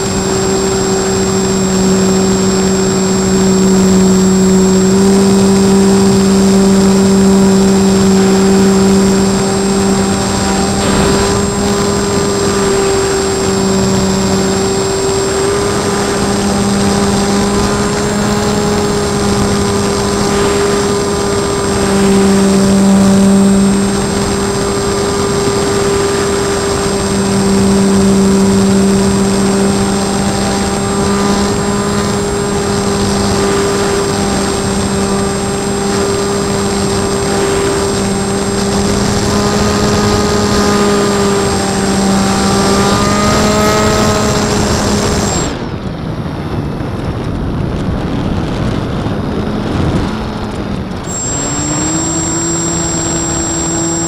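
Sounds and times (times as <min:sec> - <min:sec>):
model plane motor humming: 0:00.0 - 0:45.8, 0:47.0 - 0:54.0.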